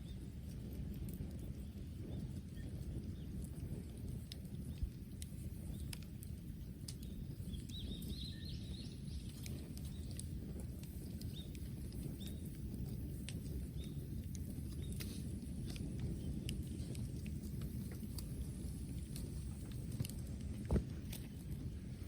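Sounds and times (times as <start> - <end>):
bonfire crackling: 0.0 - 22.0
low steady rumble: 0.0 - 22.0
sharp pops from fire: 0.0 - 22.0.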